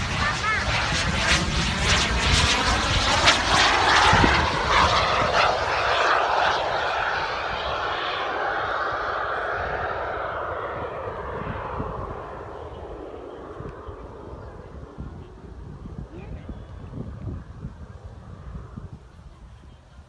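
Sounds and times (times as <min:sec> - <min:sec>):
aircraft flying past: 0:00.0 - 0:20.0.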